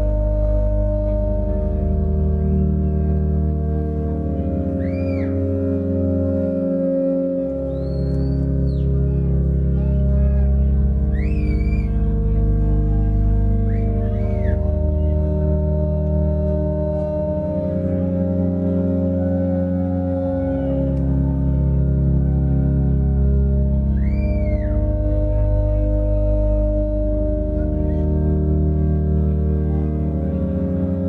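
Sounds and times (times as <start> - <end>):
sustained ambient chords: 0.0 - 31.0.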